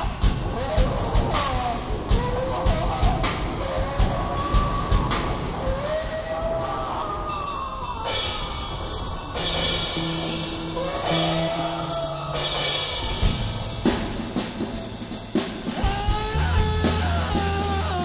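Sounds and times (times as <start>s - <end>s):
drum hits: 0.0s - 6.7s, 8.1s - 18.0s
background music with drums: 0.0s - 18.0s.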